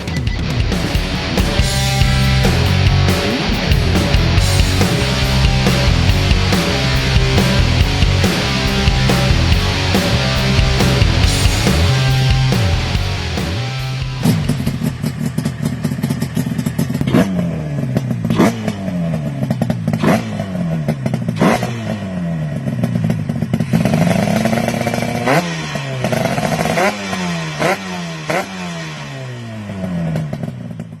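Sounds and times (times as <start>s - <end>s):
motorcycle engine revving: 0.2s - 31.0s.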